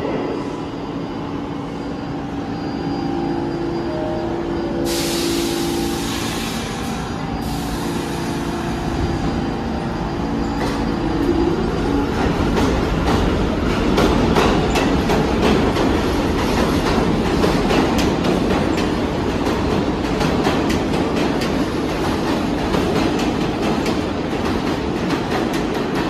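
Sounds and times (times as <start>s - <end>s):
subway train motor rumble: 0.0s - 26.0s.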